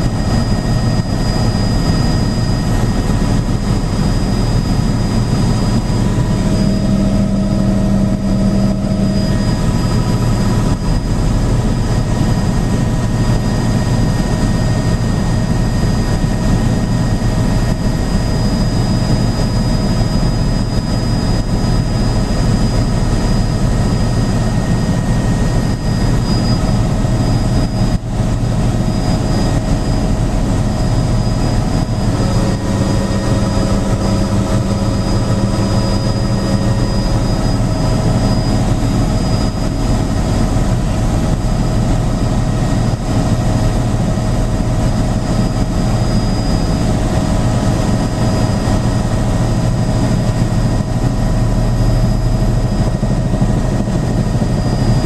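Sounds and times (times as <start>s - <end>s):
helicopter rotor and engine drone: 0.0s - 55.0s
thin high whine: 0.0s - 55.0s.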